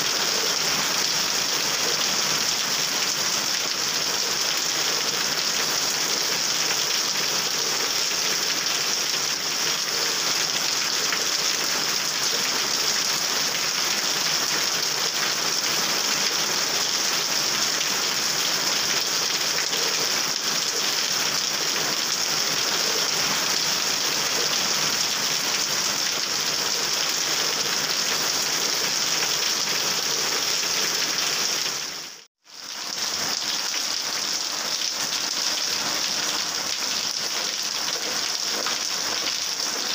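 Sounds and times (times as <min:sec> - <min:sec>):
heavy rain on a wet road: 0:00.0 - 0:39.9.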